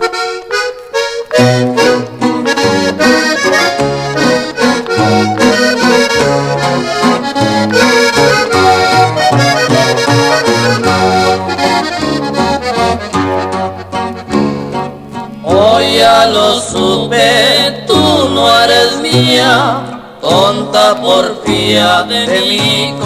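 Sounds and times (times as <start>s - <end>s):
bass and rhythm accompaniment: 0.0s - 23.0s
button accordion melody: 0.0s - 23.0s.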